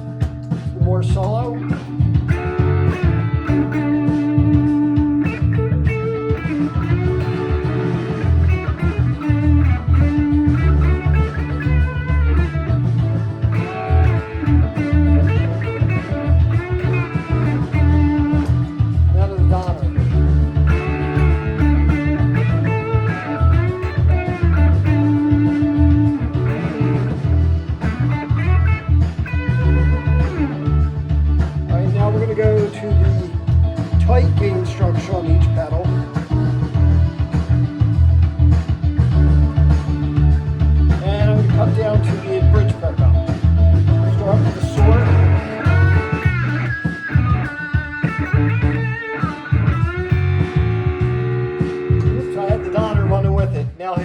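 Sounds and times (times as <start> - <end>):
backing track of bass and drums: 0.0 - 54.0
overdriven electric guitar lead: 0.0 - 54.0.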